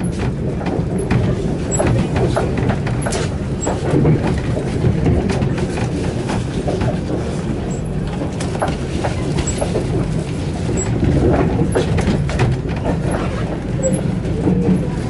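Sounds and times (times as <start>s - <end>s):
train rumble inside a coach: 0.0s - 15.0s
wheels clicking on track: 0.0s - 15.0s.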